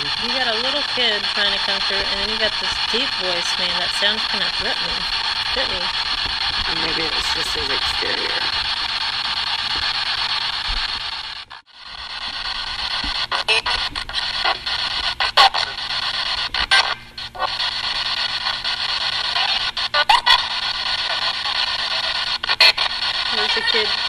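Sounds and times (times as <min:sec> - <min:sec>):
short blips of radio sound: 0:00.0 - 0:11.3, 0:12.0 - 0:24.0
radio static hiss: 0:00.0 - 0:24.0.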